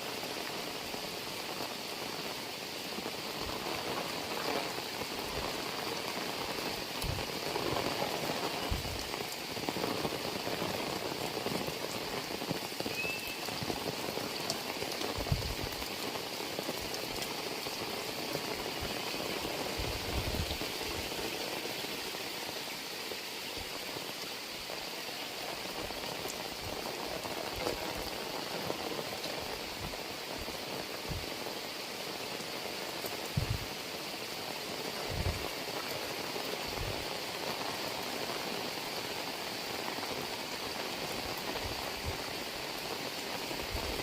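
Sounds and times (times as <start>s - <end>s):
heavy rain falling: 0.0s - 44.0s.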